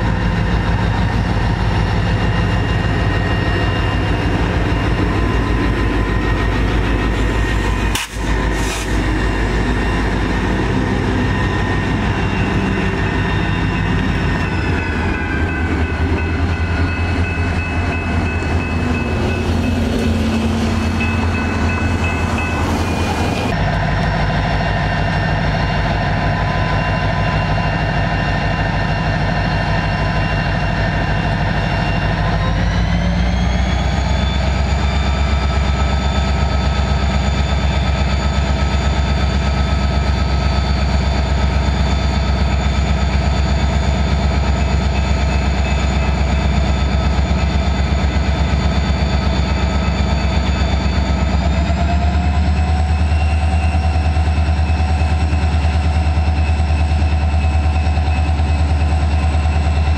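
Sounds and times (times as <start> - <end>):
locomotive engine with high whine: 0.0 - 59.9.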